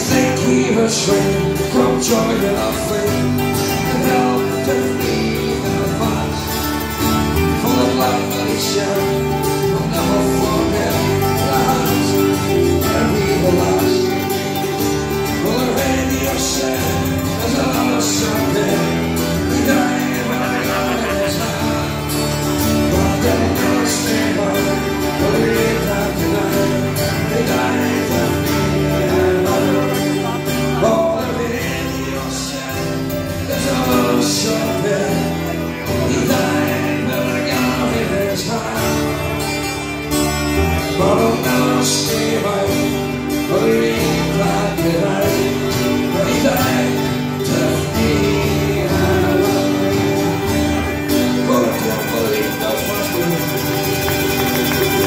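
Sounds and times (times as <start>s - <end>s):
acoustic guitar strumming: 0.0s - 55.0s
electric guitars: 0.0s - 55.0s
man singing: 0.0s - 55.0s.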